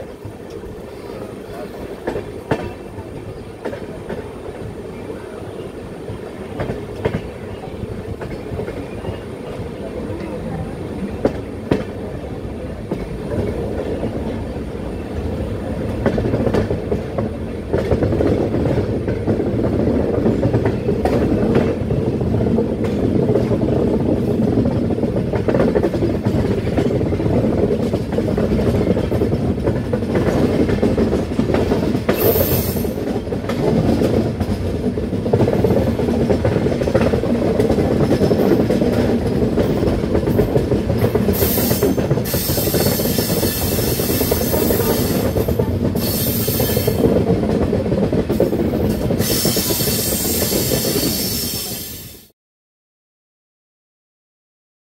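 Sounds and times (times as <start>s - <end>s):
train wheels rumbling on rails: 0.0s - 52.3s.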